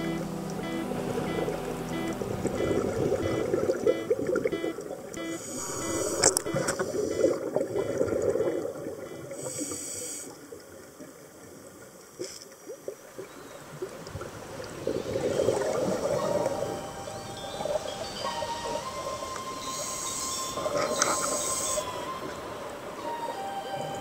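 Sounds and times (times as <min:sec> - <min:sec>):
underwater gurgling and bubbling: 0:00.0 - 0:11.5, 0:13.9 - 0:23.1.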